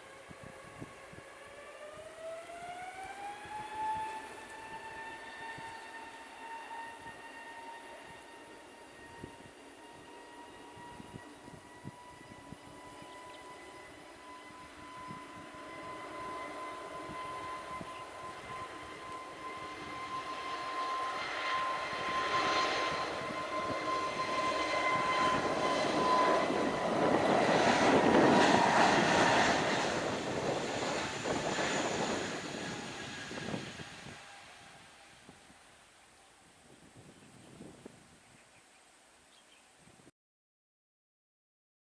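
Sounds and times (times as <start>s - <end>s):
airliner engines passing: 0.0s - 38.8s.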